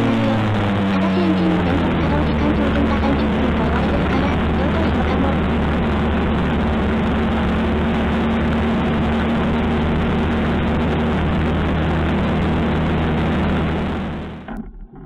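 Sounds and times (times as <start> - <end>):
wind and road noise: 0.0 - 14.4
two-stroke engine running: 0.0 - 14.6.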